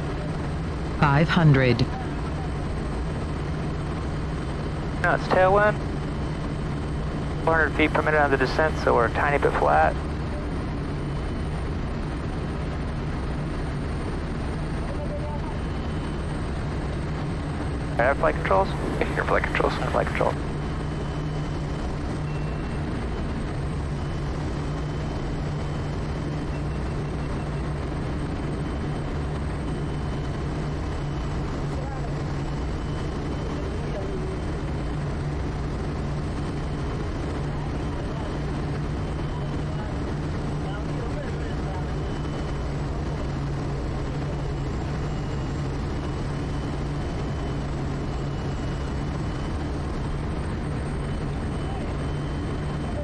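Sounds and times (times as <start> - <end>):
turboprop engine droning: 0.0 - 53.0.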